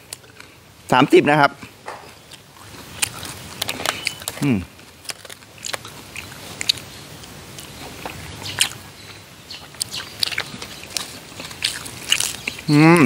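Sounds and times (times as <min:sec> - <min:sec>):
person chewing with wet smacks: 0:01.6 - 0:13.0.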